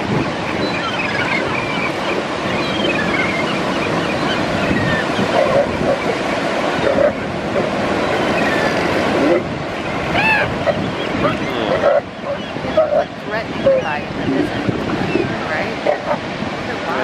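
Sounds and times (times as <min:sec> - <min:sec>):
gulls and seals calling: 0:00.0 - 0:17.0
ocean surf washing on beach: 0:00.0 - 0:17.0
low loud animal calls: 0:00.5 - 0:16.2.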